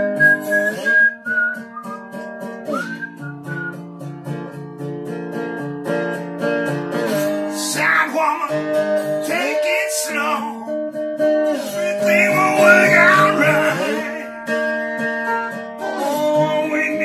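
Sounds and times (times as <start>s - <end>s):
resonator guitar slide playing: 0.0s - 9.2s, 11.0s - 17.0s.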